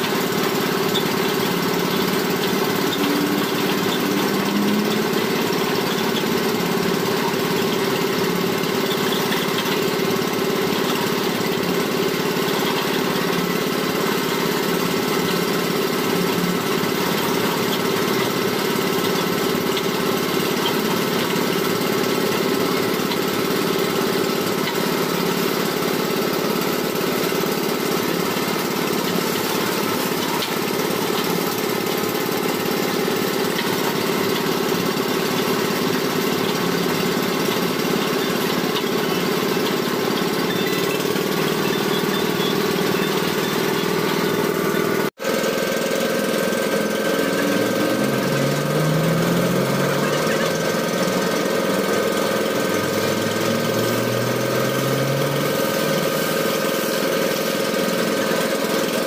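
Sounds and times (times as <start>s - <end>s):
drilling machine engine running: 0.0s - 59.0s.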